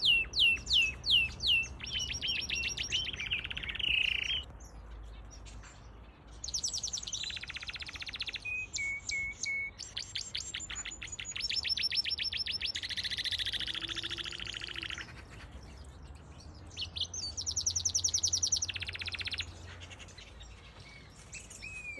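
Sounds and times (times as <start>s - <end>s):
canary singing trills: 0.0s - 21.9s.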